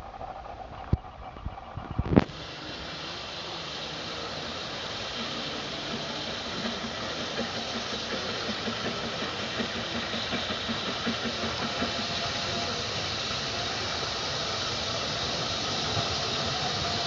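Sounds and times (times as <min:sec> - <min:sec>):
steam locomotive chuffing: 0:00.0 - 0:17.0
steam hiss: 0:01.5 - 0:17.0.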